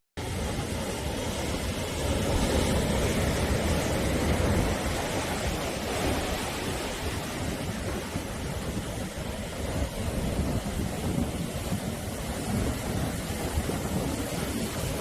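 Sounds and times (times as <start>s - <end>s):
waves breaking: 0.2s - 15.0s.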